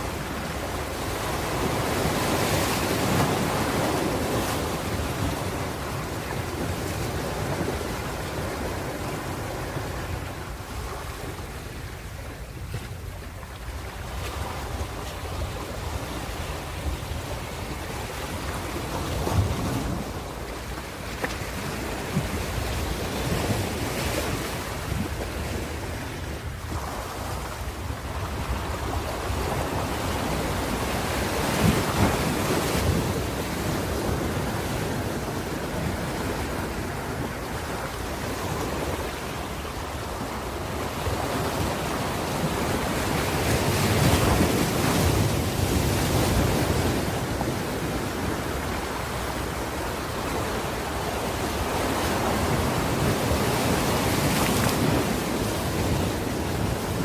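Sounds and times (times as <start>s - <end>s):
ocean waves breaking on shore: 0.0s - 57.0s
wind on microphone: 0.0s - 57.0s.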